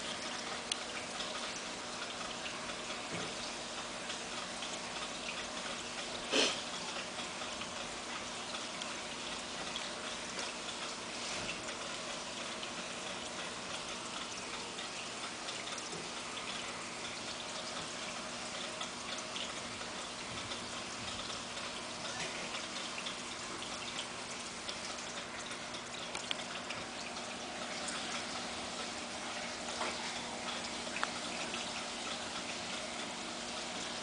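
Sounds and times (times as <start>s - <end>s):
low steady hum: 0.0s - 34.0s
water trickling from filter: 0.0s - 34.0s.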